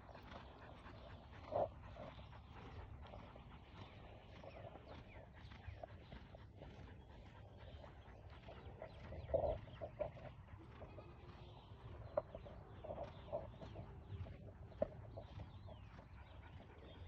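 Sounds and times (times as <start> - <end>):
birds chirping: 0.0 - 17.0
farm animal calls: 0.0 - 17.0.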